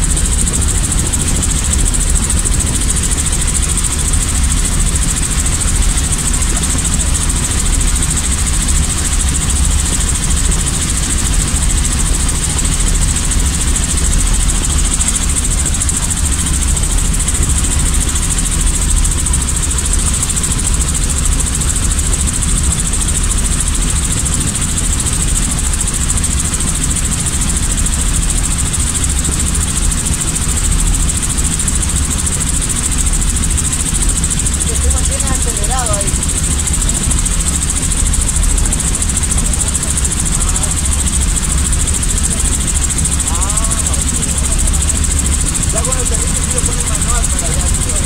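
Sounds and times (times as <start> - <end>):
helicopter engine and rotor drone: 0.0 - 48.0.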